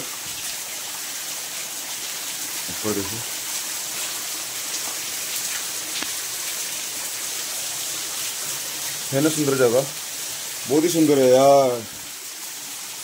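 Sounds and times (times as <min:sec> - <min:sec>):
water drips: 0:00.0 - 0:13.0
waterfall splashing: 0:00.0 - 0:13.0.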